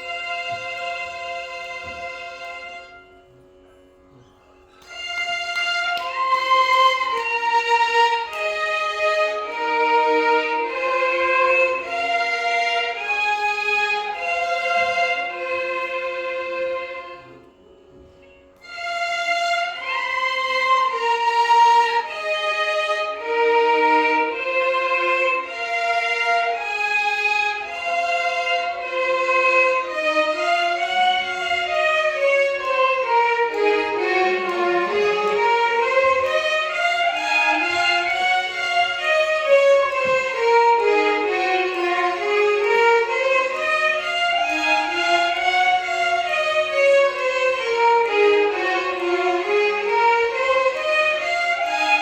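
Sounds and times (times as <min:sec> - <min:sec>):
violin ensemble playing: 0:00.0 - 0:52.0.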